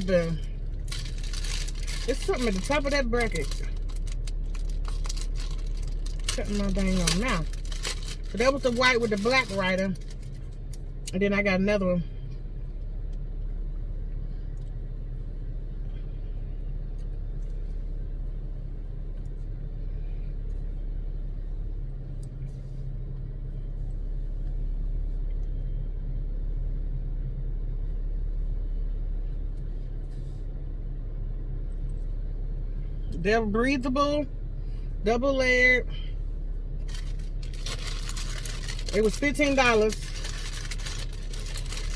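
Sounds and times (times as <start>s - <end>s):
car cabin engine rumble: 0.0s - 41.9s.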